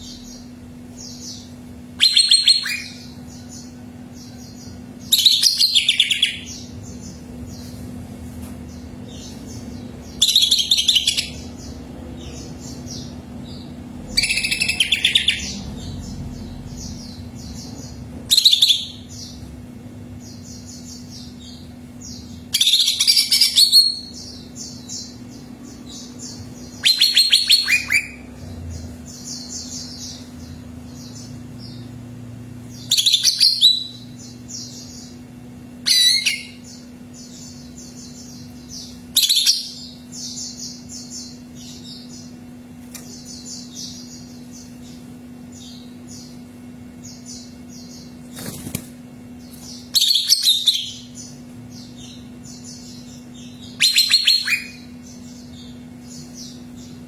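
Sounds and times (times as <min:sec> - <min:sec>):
bird warbling and chirping: 0:00.0 - 0:07.7, 0:08.7 - 0:19.5, 0:20.1 - 0:32.0, 0:32.6 - 0:42.4, 0:43.0 - 0:57.0
steady low hum: 0:00.0 - 0:57.0.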